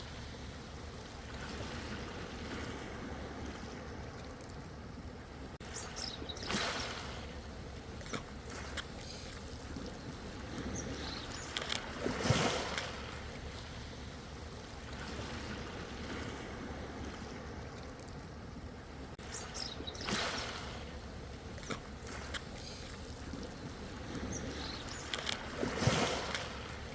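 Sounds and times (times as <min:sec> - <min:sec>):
ocean waves washing in: 0:00.0 - 0:04.2, 0:05.2 - 0:26.9
waves breaking with splashes: 0:00.0 - 0:26.9.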